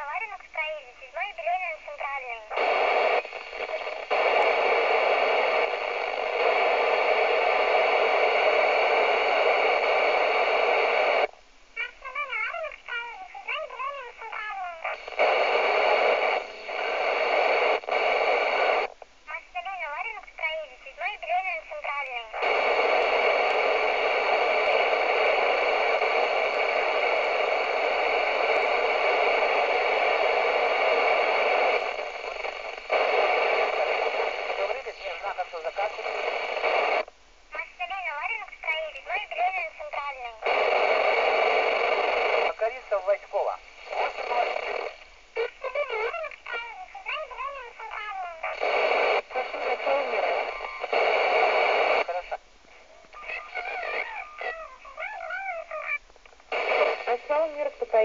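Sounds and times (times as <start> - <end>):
radio receiver hiss: 0.0 - 58.0.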